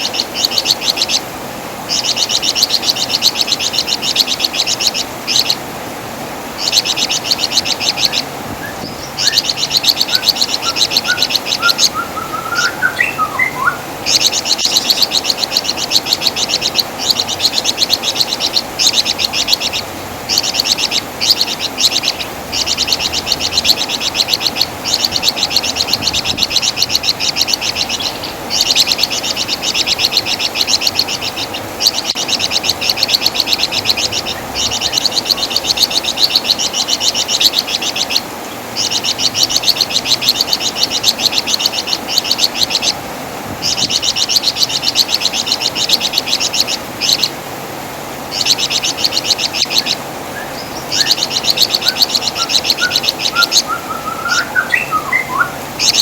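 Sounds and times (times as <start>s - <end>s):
songbird rattling trill: 0.0s - 1.3s, 1.9s - 5.7s, 6.6s - 47.4s, 48.3s - 56.0s.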